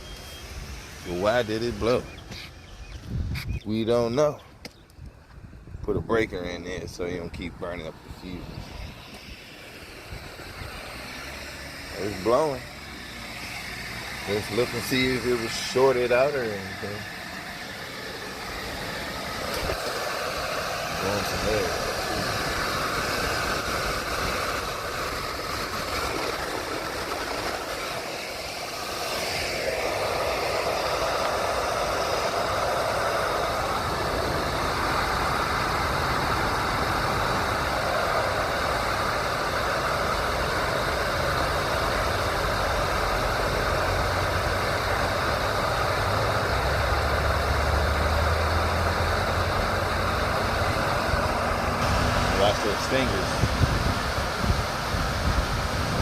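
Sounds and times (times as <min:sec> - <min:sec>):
blower fan blowing air: 0:00.0 - 0:56.0
diesel engine idling: 0:06.7 - 0:55.9.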